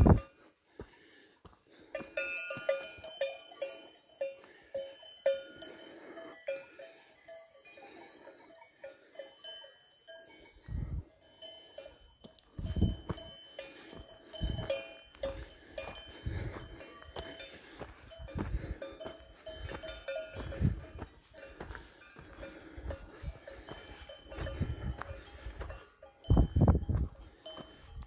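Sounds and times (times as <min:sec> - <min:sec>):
cowbells clanking: 0:00.0 - 0:00.4, 0:01.8 - 0:28.0.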